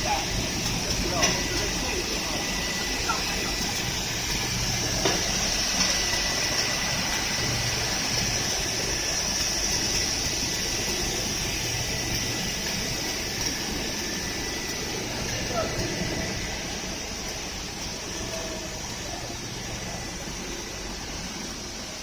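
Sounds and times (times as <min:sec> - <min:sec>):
belt sander running: 0:00.0 - 0:22.0.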